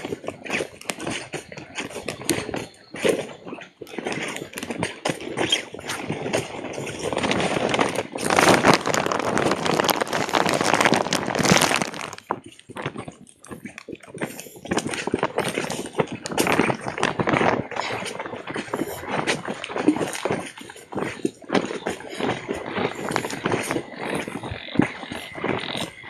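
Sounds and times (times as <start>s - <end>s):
footsteps in dry grass: 0.0s - 26.0s.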